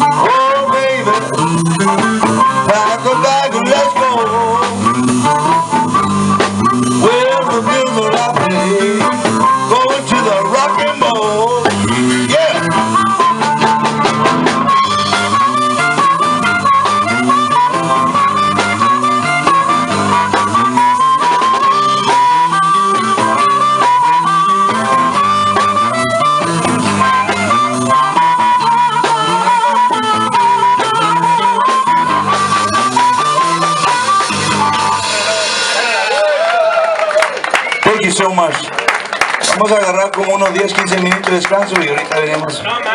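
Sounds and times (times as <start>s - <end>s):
guitar shuffle: 0.0s - 35.5s, 37.8s - 42.9s
harmonica lead: 0.0s - 36.4s.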